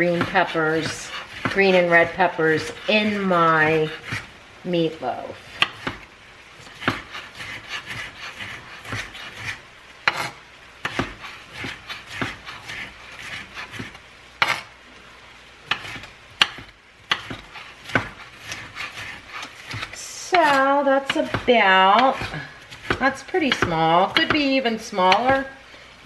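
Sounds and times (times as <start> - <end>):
knife scraping: 0.0 - 4.3, 5.4 - 14.8, 15.6 - 25.6.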